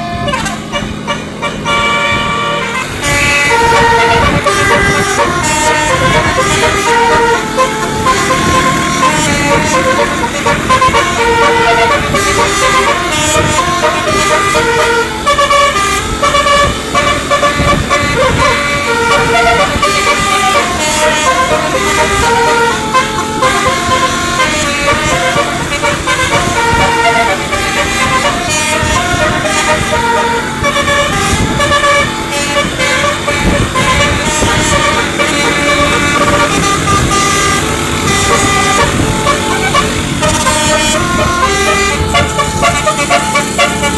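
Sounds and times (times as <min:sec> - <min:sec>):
musical bus horn playing tune: 0:00.0 - 0:43.9.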